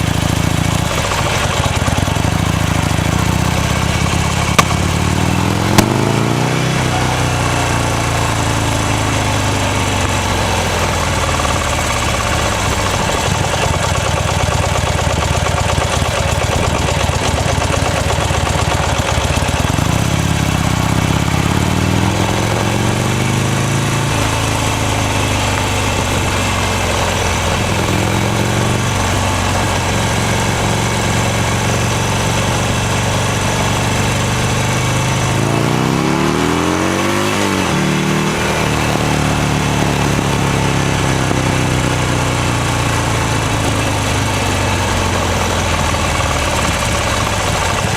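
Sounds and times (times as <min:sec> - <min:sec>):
motorcycle engine revving: 0:00.0 - 0:47.9
steady rush of traffic noise: 0:00.0 - 0:47.9.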